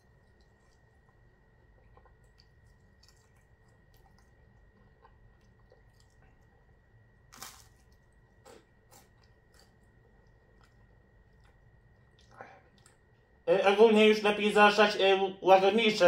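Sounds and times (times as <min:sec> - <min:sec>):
crunchy bite and chewing: 0:00.0 - 0:13.1.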